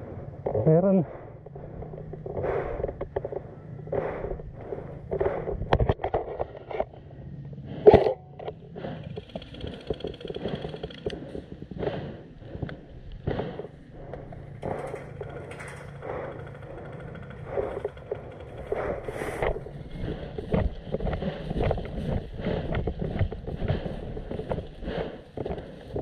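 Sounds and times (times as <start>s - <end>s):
camera rustling and scuffs: 1.4s - 7.0s, 7.6s - 26.0s.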